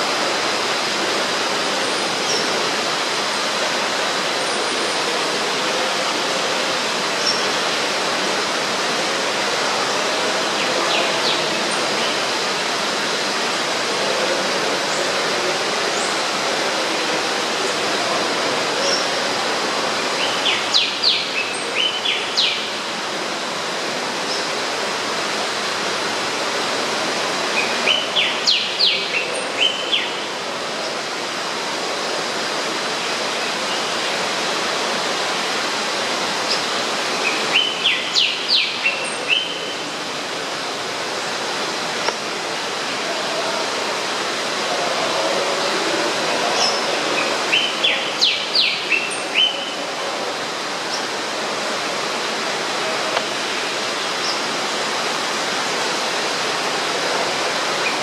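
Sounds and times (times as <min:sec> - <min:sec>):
falling water rushing: 0:00.0 - 0:58.0.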